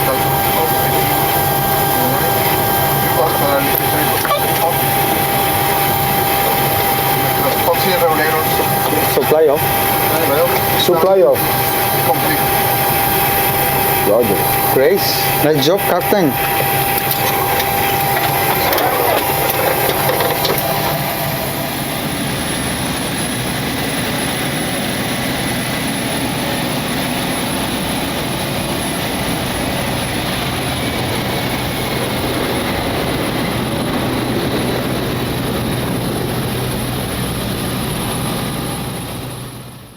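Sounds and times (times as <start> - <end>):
aircraft cockpit noise: 0.0 - 39.9.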